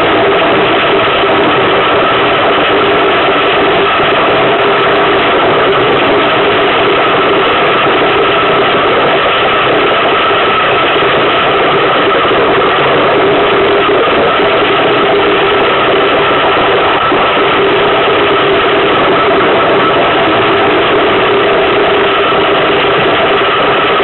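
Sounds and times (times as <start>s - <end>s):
iceboat runners rumbling on ice: 0.0s - 24.0s.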